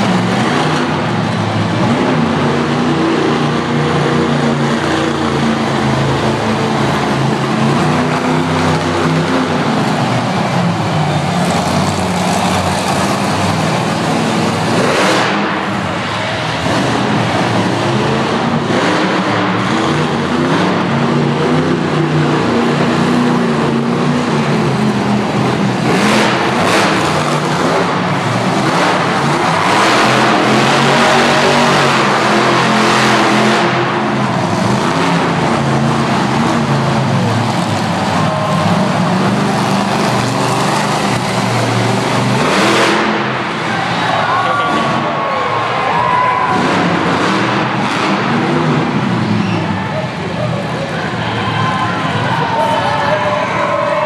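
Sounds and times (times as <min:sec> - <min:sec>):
monster truck engines revving: 0:00.0 - 0:54.0.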